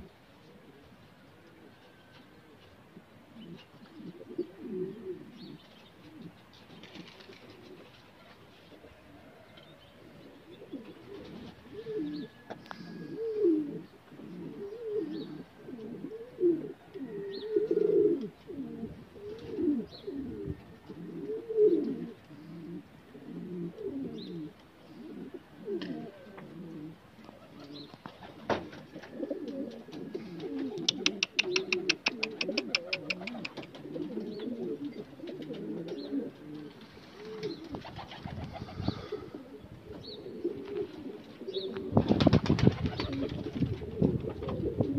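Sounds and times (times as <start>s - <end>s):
pigeons cooing: 0.0s - 44.9s.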